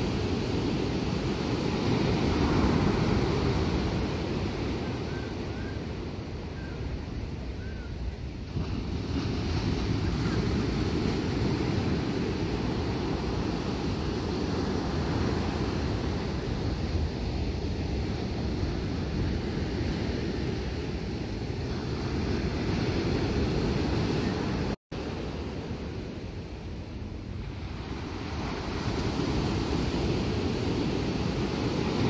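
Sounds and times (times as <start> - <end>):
surf washing on beach: 0.0 - 32.0
wind rumbling on microphone: 0.0 - 32.0.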